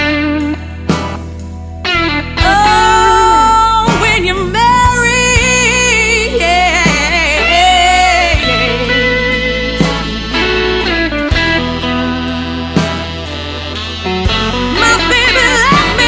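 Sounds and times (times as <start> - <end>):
guitar: 0.0 - 16.0
slow blues melody with vibrato: 0.0 - 16.0
steady bass: 0.0 - 16.0.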